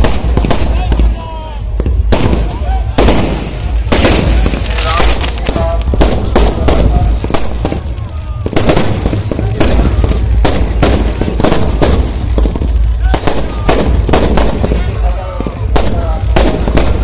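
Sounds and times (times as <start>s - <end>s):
fireworks banging and crackling: 0.0s - 17.0s
steady low rumble: 1.9s - 17.0s.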